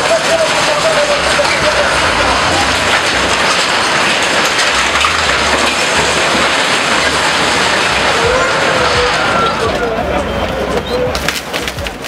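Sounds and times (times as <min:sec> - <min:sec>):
sheet metal clattering and crunching: 0:00.0 - 0:12.0
low rumble: 0:00.5 - 0:10.7.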